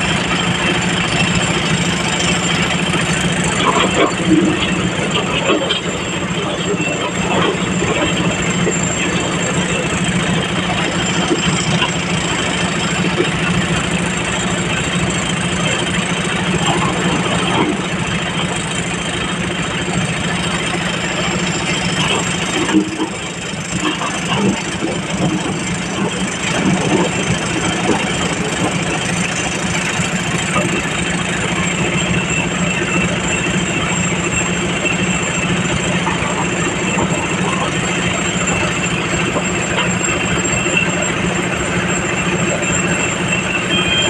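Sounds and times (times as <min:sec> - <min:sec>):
heavy machinery engine humming: 0:00.0 - 0:44.0.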